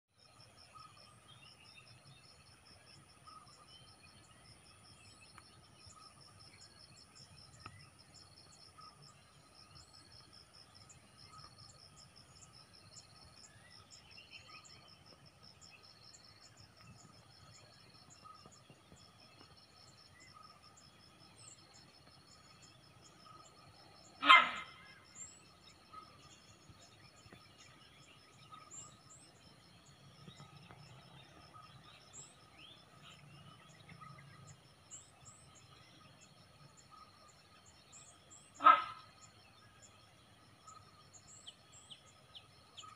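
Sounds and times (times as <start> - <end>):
insects chirping: 0.2 - 42.9.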